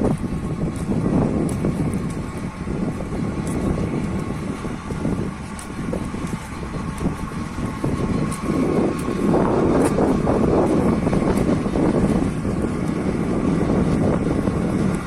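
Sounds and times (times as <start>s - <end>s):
car road and engine rumble: 0.0s - 15.0s
wind buffeting: 0.0s - 15.0s.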